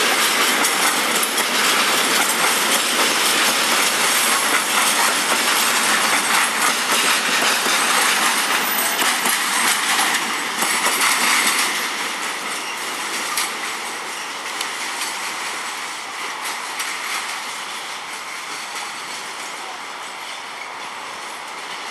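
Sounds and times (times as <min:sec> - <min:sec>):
train wheels clattering over rail joints: 0:00.0 - 0:21.9.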